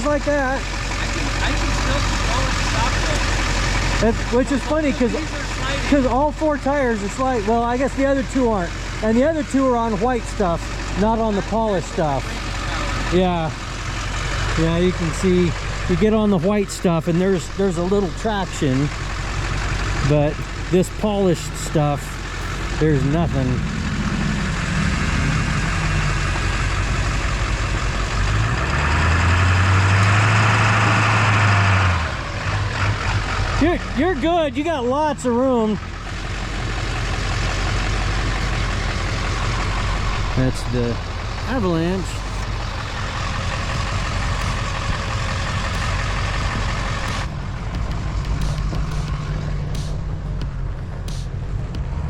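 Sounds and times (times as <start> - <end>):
deep engine drone: 0.0 - 52.0
truck engine running: 0.0 - 52.0.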